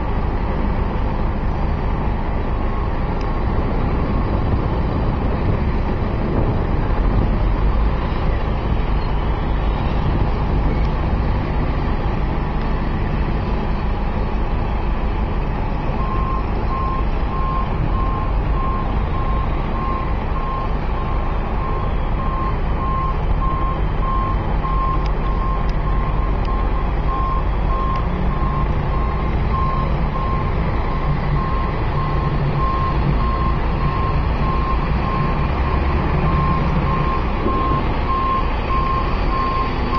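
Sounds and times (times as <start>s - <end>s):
construction machinery engine rumble: 0.0s - 39.9s.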